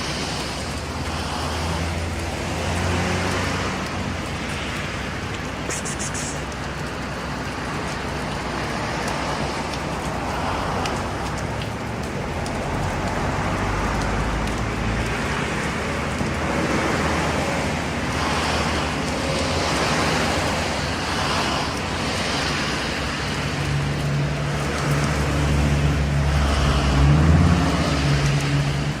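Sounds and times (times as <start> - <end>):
road traffic noise: 0.0 - 29.0
vehicle engine approaching: 0.0 - 29.0.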